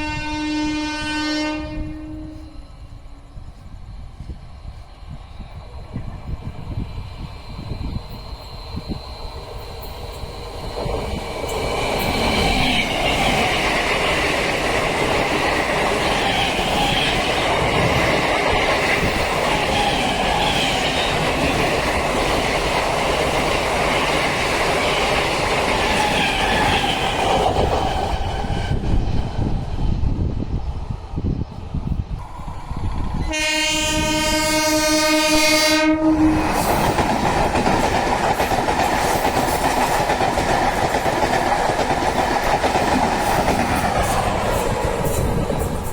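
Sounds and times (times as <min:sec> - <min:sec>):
train running on rails: 0:00.0 - 0:45.9.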